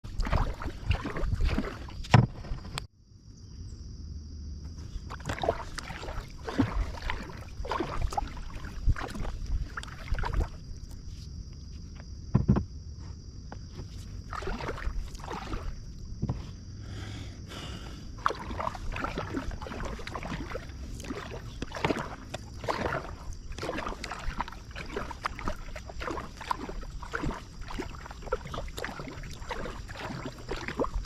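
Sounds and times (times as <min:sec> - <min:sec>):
paddle splashing through water: 0:00.0 - 0:02.9, 0:04.8 - 0:11.3, 0:13.8 - 0:16.5, 0:17.5 - 0:31.0.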